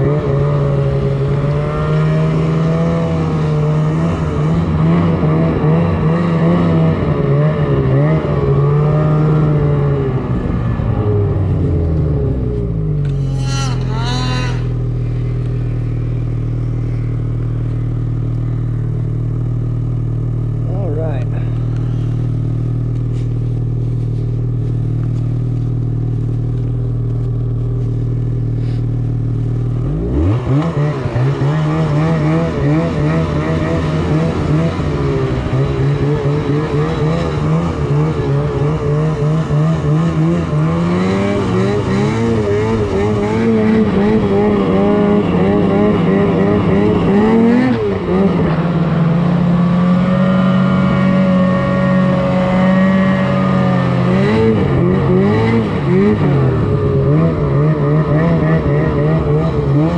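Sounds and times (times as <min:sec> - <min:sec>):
snowmobile engine idling and revving: 0:00.0 - 0:59.9.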